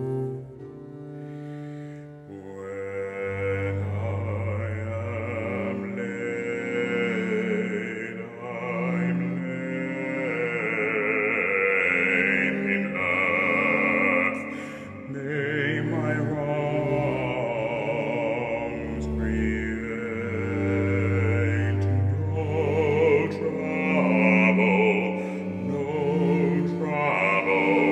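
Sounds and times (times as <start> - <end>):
cello: 0.0 - 27.9
violin: 0.0 - 27.9
operatic baritone singing: 2.3 - 27.9.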